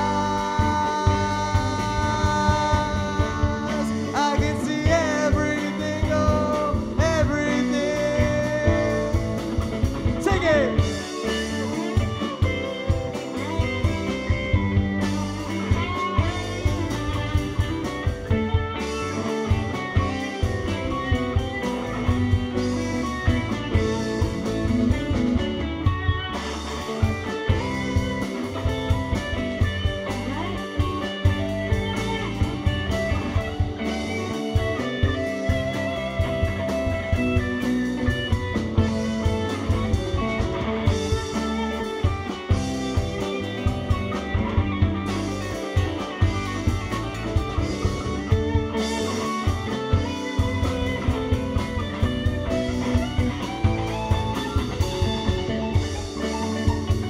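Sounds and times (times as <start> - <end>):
electric guitar bending notes: 0.0 - 57.0
steady drum beat: 0.0 - 57.0.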